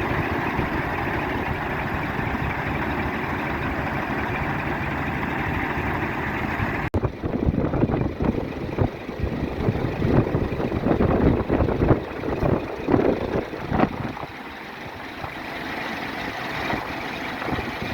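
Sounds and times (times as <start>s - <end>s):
diesel truck engine idling: 0.0s - 17.9s.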